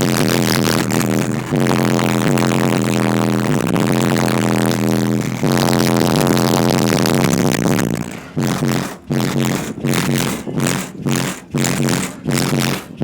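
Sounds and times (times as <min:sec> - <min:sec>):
bass-heavy music from subwoofers: 0:00.0 - 0:13.0.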